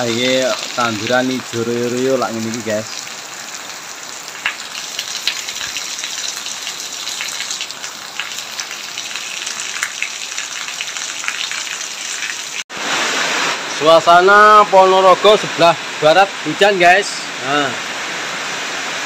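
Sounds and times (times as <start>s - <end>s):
rain on leaves and wet ground: 0.0s - 19.0s.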